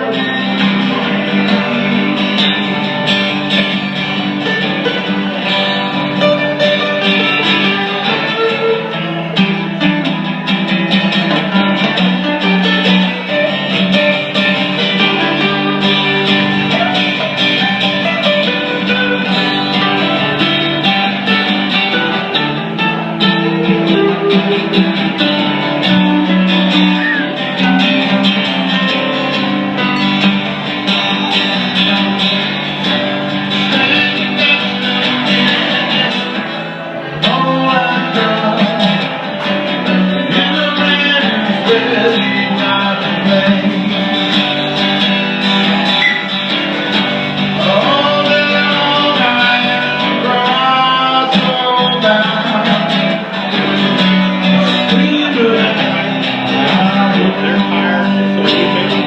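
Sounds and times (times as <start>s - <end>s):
band playing instrumental music: 0.0s - 59.0s
guitar playing: 0.0s - 59.0s.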